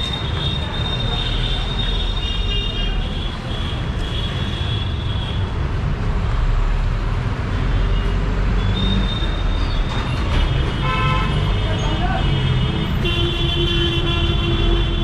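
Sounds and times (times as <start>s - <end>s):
busy street traffic rumble: 0.0s - 15.0s.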